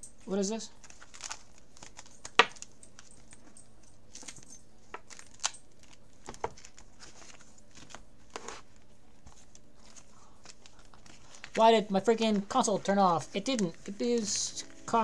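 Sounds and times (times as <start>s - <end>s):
plastic binder pages rustling: 0.2s - 15.0s.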